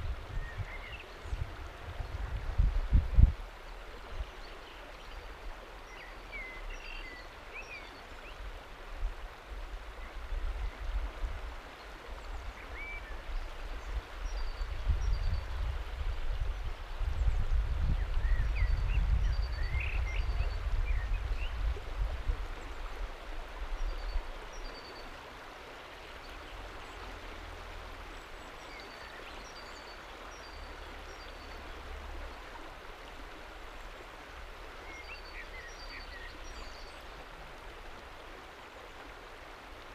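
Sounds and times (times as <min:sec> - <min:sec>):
river water flowing over rock: 0:00.0 - 0:39.9.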